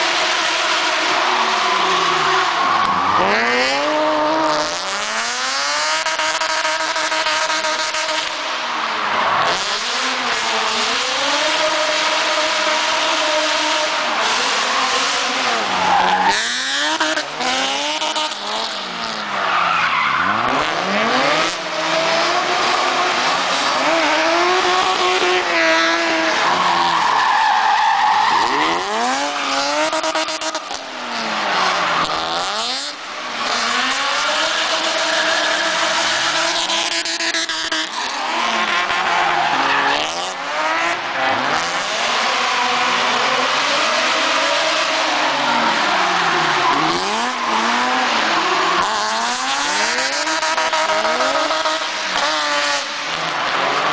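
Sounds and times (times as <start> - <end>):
car engine revving hard: 0.0 - 8.5, 9.4 - 53.9.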